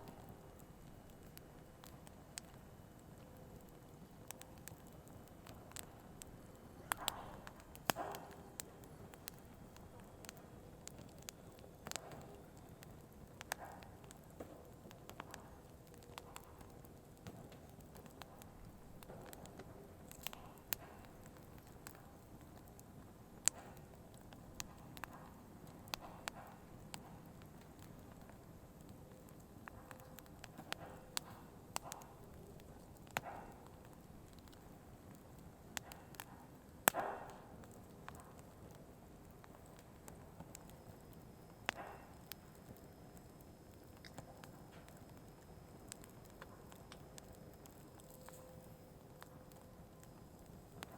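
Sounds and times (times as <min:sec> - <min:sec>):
faint steady background noise: 0:00.0 - 0:50.9
firewood crackling and popping: 0:00.0 - 0:50.9.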